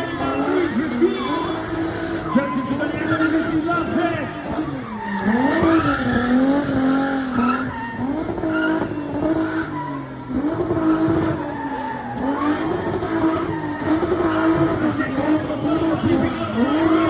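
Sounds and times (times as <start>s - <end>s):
car engine revving hard: 0.0s - 17.0s
tyres squealing and skidding: 0.0s - 17.0s.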